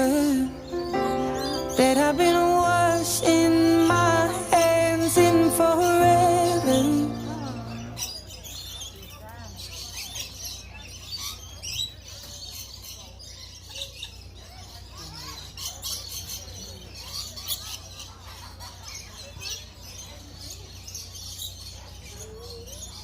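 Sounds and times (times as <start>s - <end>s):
lovebirds chirping and chattering: 0.0s - 23.0s.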